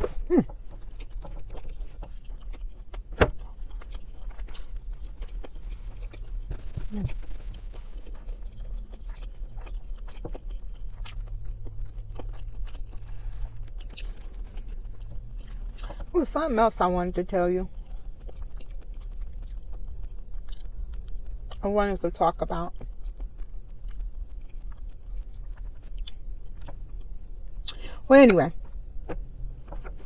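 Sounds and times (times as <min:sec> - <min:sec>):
person chewing: 0:00.0 - 0:16.2, 0:17.7 - 0:21.6, 0:22.7 - 0:29.1
steady low hum: 0:00.0 - 0:30.0.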